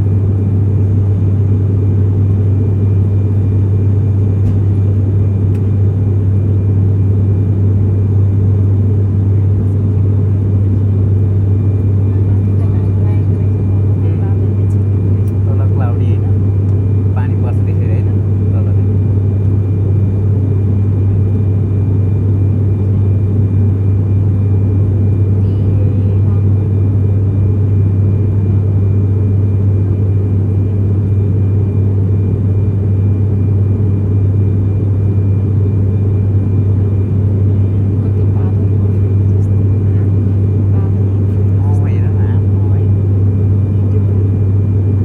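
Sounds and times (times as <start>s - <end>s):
airliner cabin drone: 0.0s - 45.0s.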